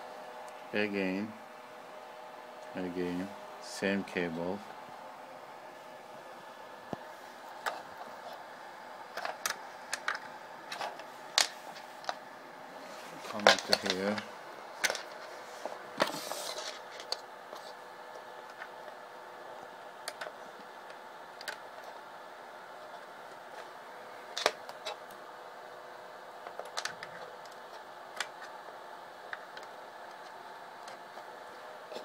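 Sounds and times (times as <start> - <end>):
faint hum: 0.0 - 32.0.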